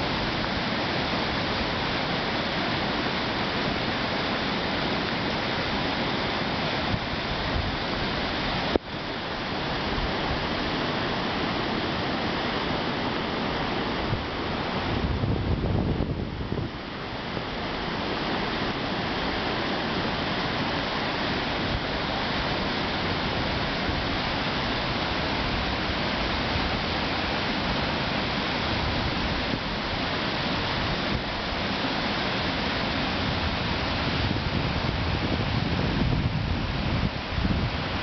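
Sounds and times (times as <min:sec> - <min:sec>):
flooded river rushing: 0:00.0 - 0:38.0.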